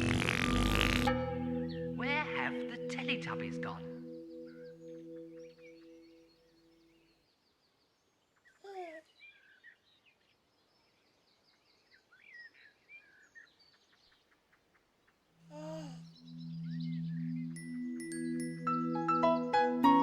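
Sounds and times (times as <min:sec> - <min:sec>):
small birds chirping: 0:00.0 - 0:19.6.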